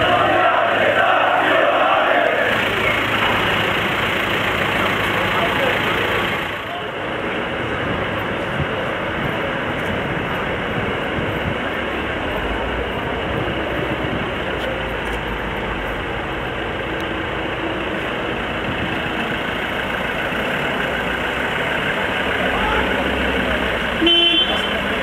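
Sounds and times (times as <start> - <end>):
vehicle engines running: 0.0 - 25.0.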